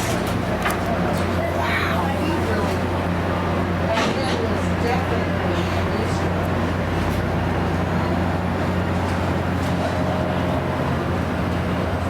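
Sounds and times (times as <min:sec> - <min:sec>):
train low drone: 0:00.0 - 0:12.0.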